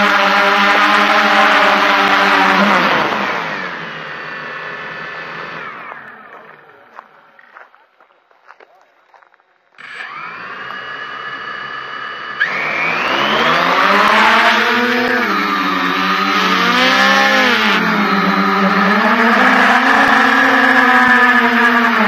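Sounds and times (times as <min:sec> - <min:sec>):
drone motors whining: 0:00.0 - 0:07.6, 0:09.8 - 0:22.0.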